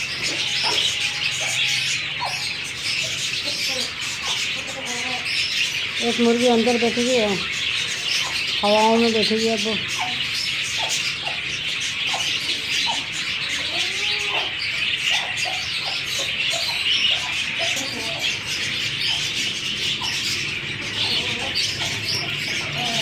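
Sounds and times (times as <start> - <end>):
budgerigars chattering: 0.0 - 23.0.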